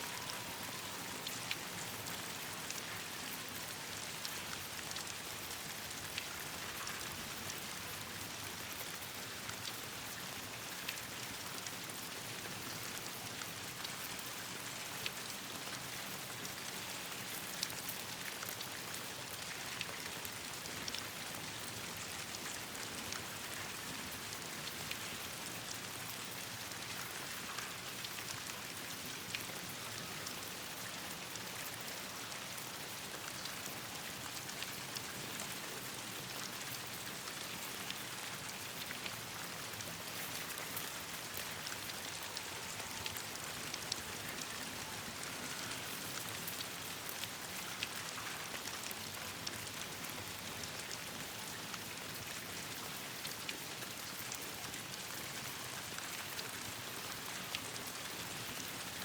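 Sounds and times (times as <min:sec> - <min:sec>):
rain pattering on leaves: 0:00.0 - 0:59.0
small sharp ticks and crackles: 0:00.0 - 0:59.0.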